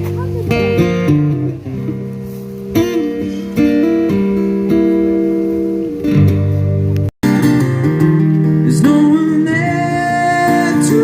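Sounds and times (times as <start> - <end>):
strummed acoustic guitar chords: 0.0 - 11.0.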